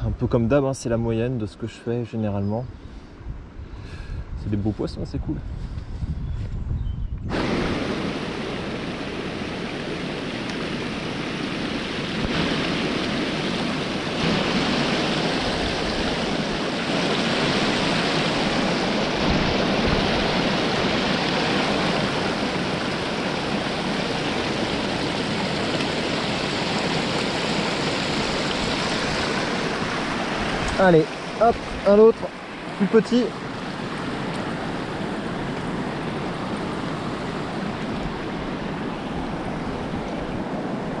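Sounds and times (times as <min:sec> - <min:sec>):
river water rushing: 0:07.3 - 0:41.0.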